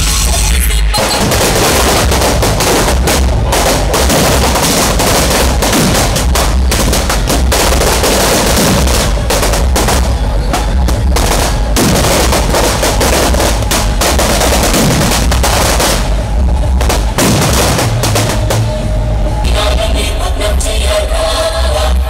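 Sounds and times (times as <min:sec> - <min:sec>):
firecrackers going off: 0:00.0 - 0:19.4
loud music with heavy bass: 0:00.0 - 0:22.0.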